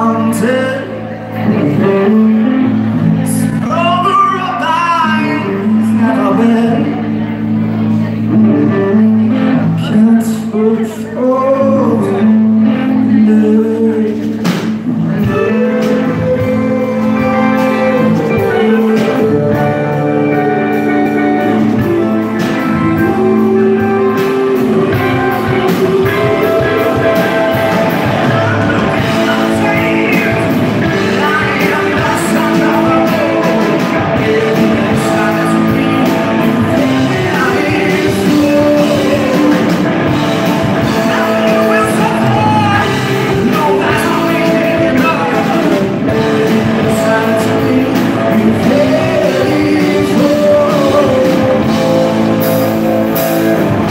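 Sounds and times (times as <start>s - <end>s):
drums: 0.0s - 53.9s
electric guitar: 0.0s - 53.9s
keyboard: 0.0s - 53.9s
person singing: 0.0s - 53.9s.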